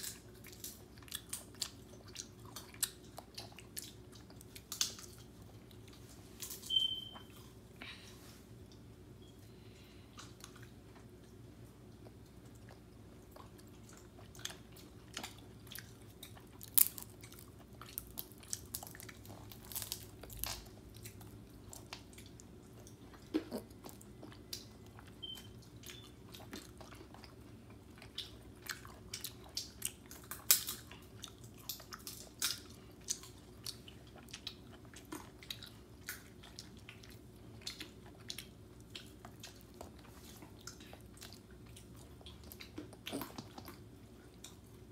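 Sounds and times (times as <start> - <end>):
child chewing wetly: 0.0 - 44.9.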